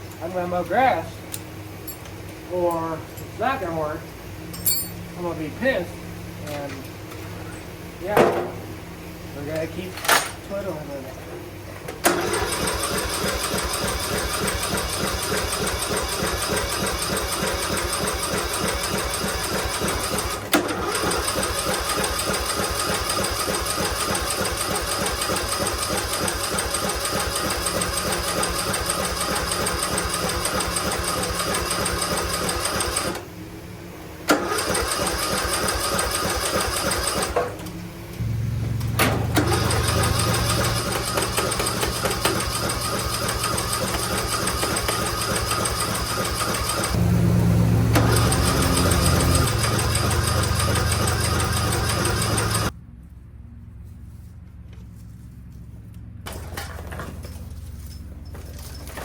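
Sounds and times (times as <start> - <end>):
lawn mower engine running: 5.2 - 53.2.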